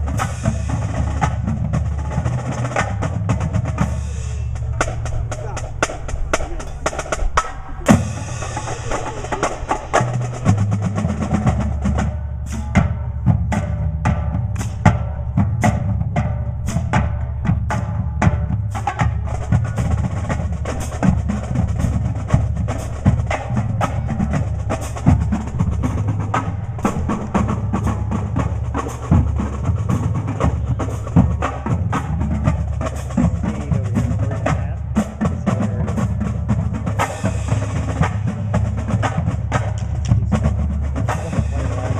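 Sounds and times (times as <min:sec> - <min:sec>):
drums and percussion beat: 0:00.0 - 0:41.9
low bass line: 0:00.0 - 0:41.9.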